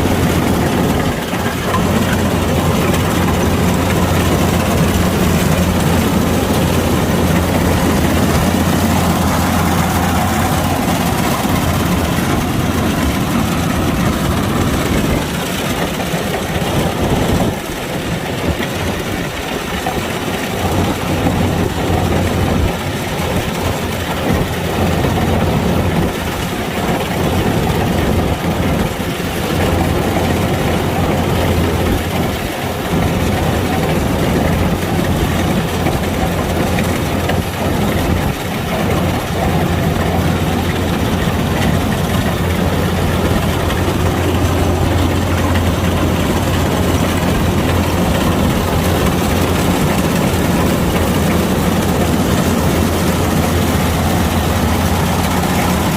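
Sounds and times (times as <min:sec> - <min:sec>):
combine harvester engine hum: 0:00.0 - 0:55.9.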